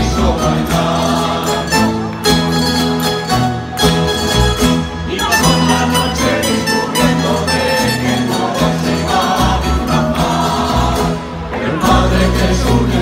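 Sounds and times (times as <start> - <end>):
folk music on plucked strings: 0.0 - 13.0
steady bass line: 0.0 - 13.0.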